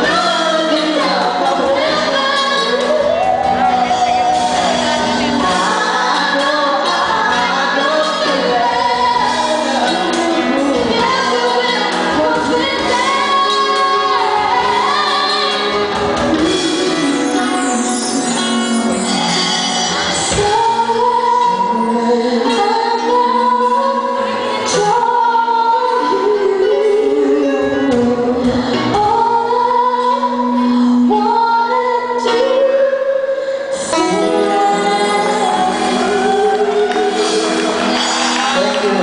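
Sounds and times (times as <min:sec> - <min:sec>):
musical accompaniment: 0:00.0 - 0:39.0
woman singing into a microphone: 0:00.0 - 0:39.0.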